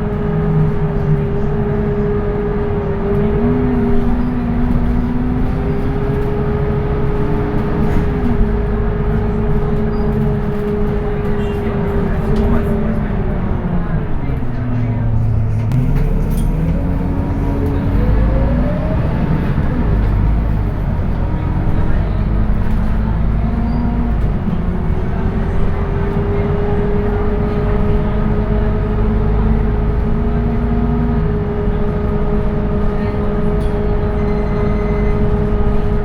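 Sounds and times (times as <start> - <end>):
bus diesel engine rumbling: 0.0 - 36.0.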